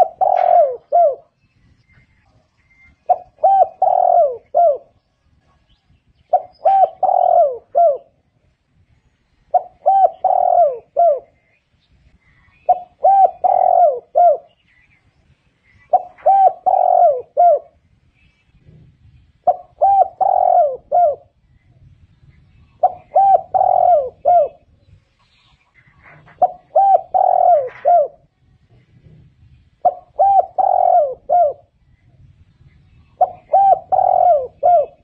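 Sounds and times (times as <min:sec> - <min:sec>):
dove cooing: 0:00.0 - 0:01.4, 0:02.3 - 0:08.3, 0:09.4 - 0:11.6, 0:12.2 - 0:14.7, 0:15.7 - 0:17.8, 0:18.5 - 0:25.0, 0:25.7 - 0:32.3, 0:33.0 - 0:35.0.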